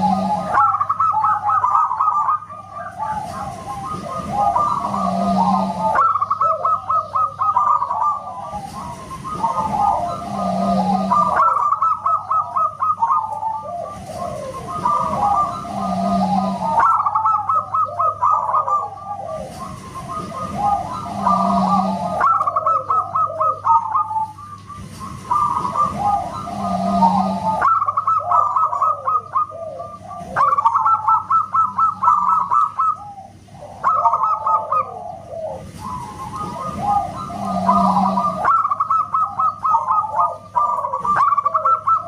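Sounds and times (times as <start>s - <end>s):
doves cooing: 0.0s - 42.0s.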